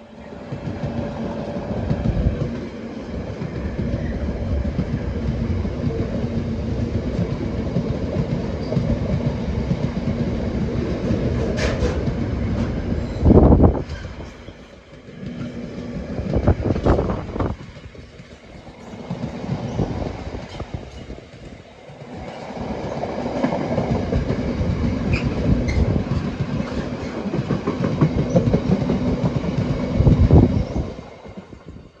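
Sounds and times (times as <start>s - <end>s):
train wheels clattering over rails: 0.4s - 31.8s.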